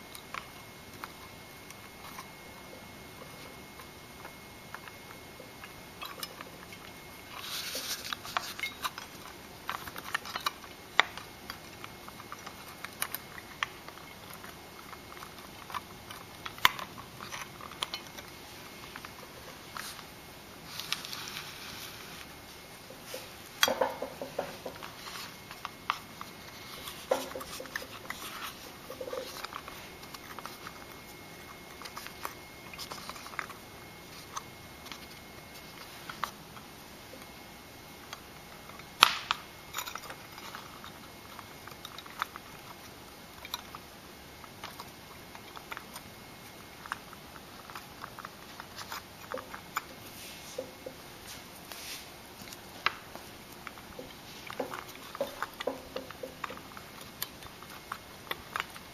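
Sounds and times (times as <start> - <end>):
clicks and rustles of handling wires: 0.0 - 37.4, 38.0 - 58.9.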